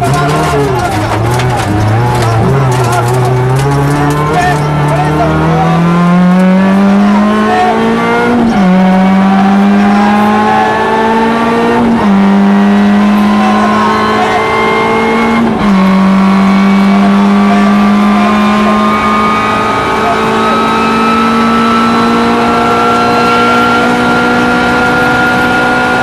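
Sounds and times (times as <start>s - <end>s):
car engine revving with gear shifts: 0.0s - 26.0s.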